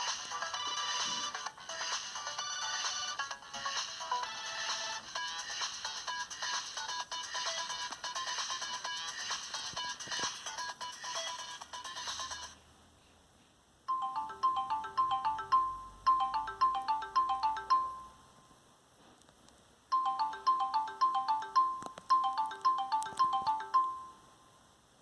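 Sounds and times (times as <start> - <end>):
phone ringtone chiming melody: 0.0 - 12.5, 13.9 - 18.4, 19.9 - 24.5.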